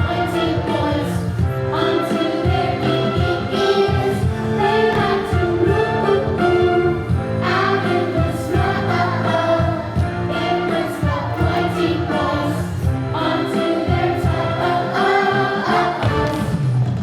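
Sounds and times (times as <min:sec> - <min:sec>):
choir singing: 0:00.0 - 0:16.7
instrumental accompaniment: 0:00.0 - 0:17.0.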